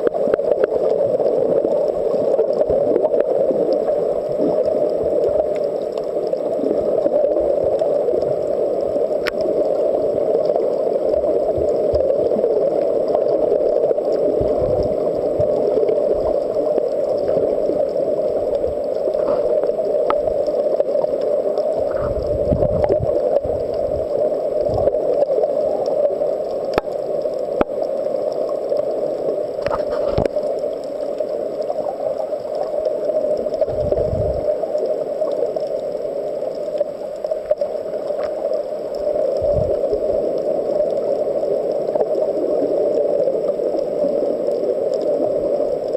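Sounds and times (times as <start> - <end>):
low gurgling rumbles: 0.0 - 45.9
muffled underwater hum: 0.0 - 45.9.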